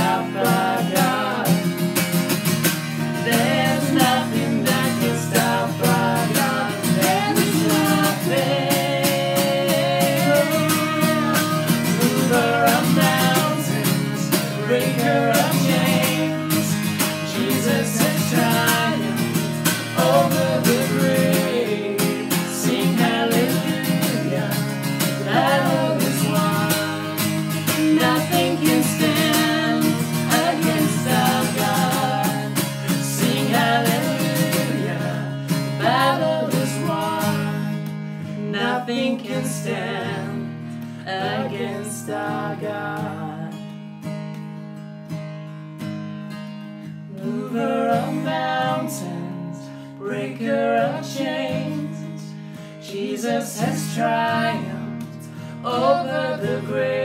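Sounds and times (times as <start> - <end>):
worship song by band: 0.0 - 43.6, 47.1 - 57.0
guitar: 0.0 - 57.0.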